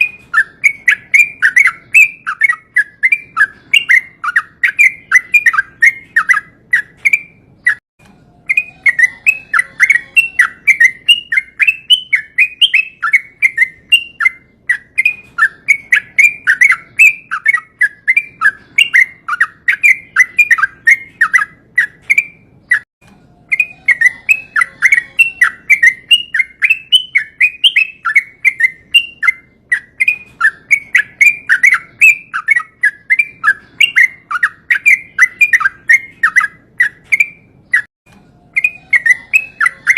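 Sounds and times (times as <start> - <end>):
bird singing bubbly chatter: 0.0 - 7.8, 8.4 - 37.9, 38.5 - 39.9.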